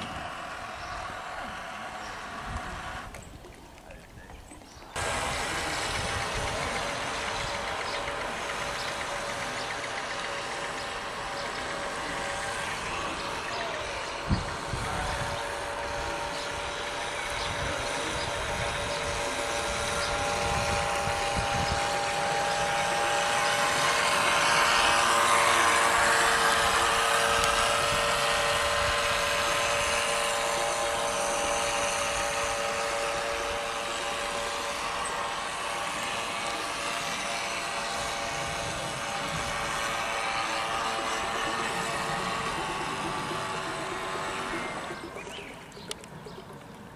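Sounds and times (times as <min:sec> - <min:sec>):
boat wake hiss: 0:00.0 - 0:04.1, 0:04.8 - 0:46.9
model boat motor whine: 0:00.0 - 0:46.9.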